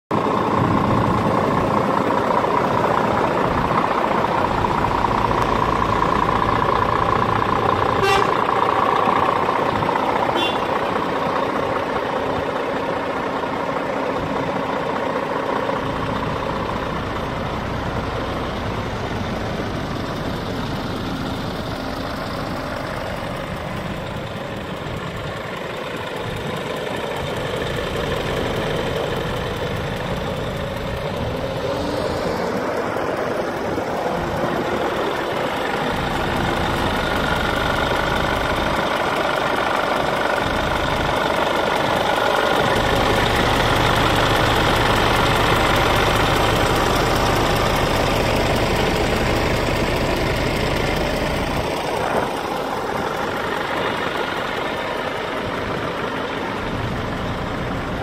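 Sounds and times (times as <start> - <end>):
diesel truck engine idling: 0.1 - 58.0.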